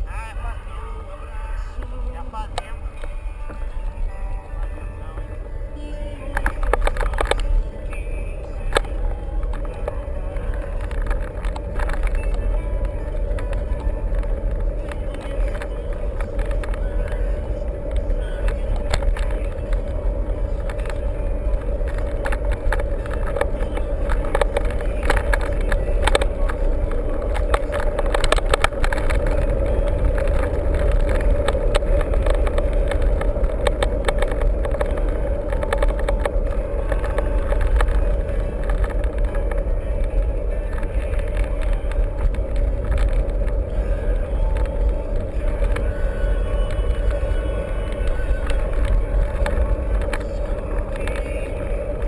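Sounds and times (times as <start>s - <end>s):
bike rattling and clicking: 0.0s - 52.0s
wind rumble on microphone: 0.0s - 52.0s.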